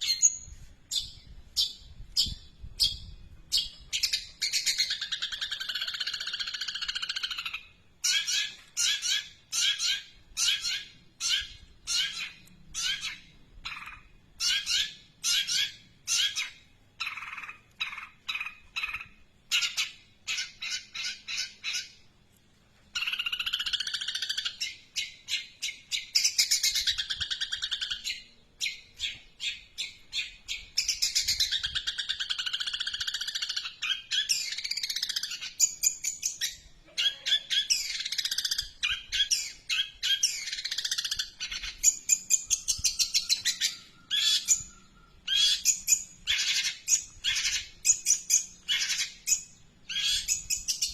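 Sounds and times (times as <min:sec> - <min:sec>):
bird chirping and chattering song: 0:00.0 - 0:50.9.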